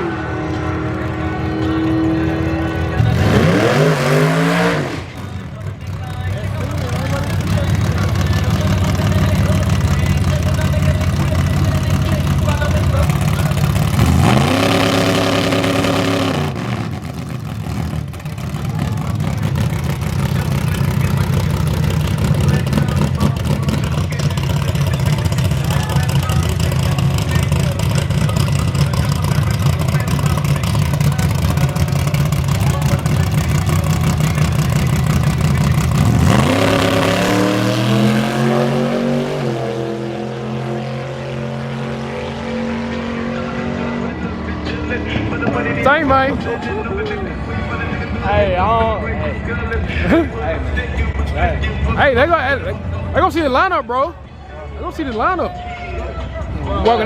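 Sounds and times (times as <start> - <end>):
race car engine revving: 0.0 - 48.4
engines idling: 0.0 - 57.0.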